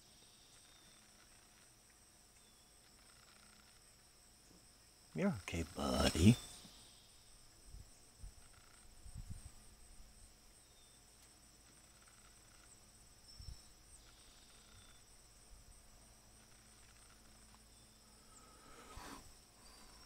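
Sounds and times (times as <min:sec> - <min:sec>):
faint insect trilling: 0:00.0 - 0:20.0.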